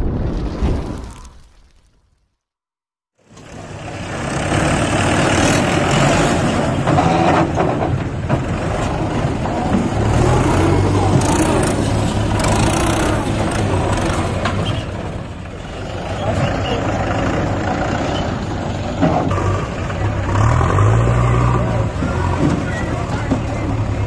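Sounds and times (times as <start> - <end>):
diesel engines running: 3.2 - 24.0.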